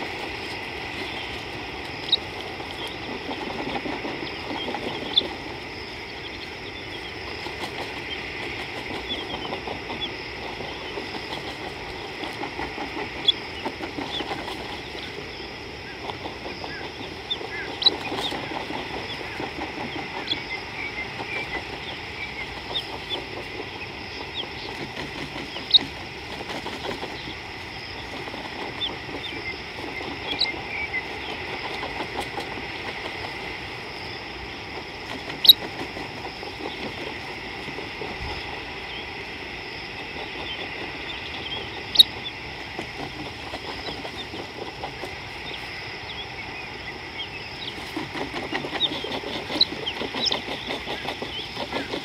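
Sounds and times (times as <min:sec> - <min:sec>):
faint bird chirps: 0:00.0 - 0:33.2, 0:34.5 - 0:52.0
steady hiss: 0:00.0 - 0:52.0.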